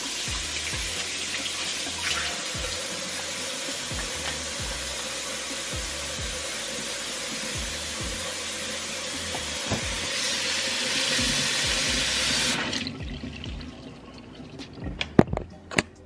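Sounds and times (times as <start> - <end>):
faucet running into a sink: 0.0 - 15.2.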